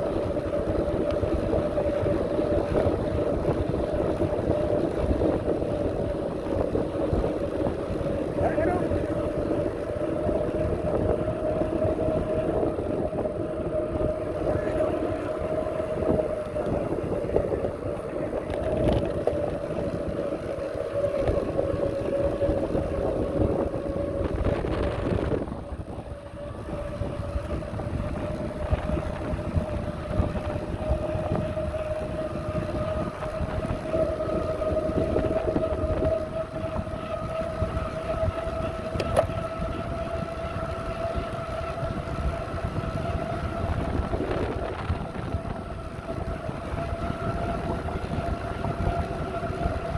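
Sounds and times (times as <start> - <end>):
bicycle tyre noise: 0.0 - 49.9
steady whine: 0.0 - 49.9
wind rumbling on microphone: 0.0 - 49.9.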